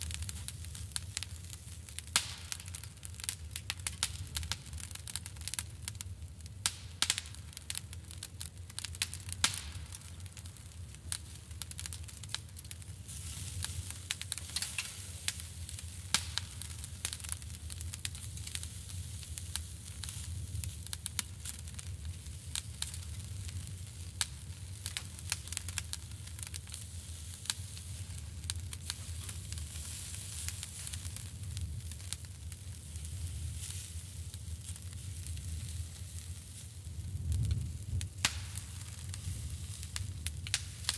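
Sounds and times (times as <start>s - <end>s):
sausage sizzling on a grill: 0.0s - 40.9s
sharp pops and crackles: 0.0s - 40.9s.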